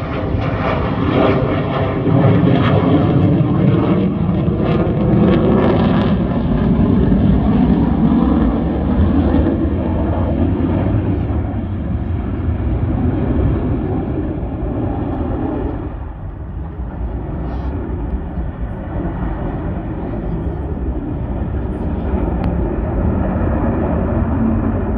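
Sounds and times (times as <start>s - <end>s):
jet engine roaring flyby: 0.0s - 24.9s.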